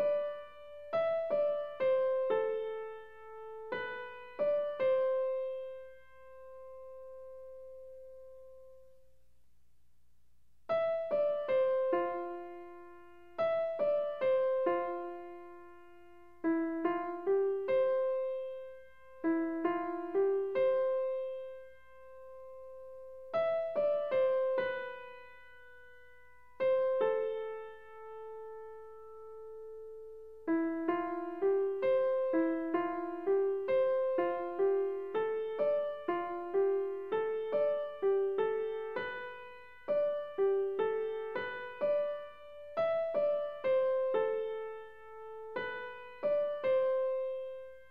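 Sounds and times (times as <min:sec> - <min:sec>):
gentle piano melody: 0:00.0 - 0:09.1, 0:10.7 - 0:47.9.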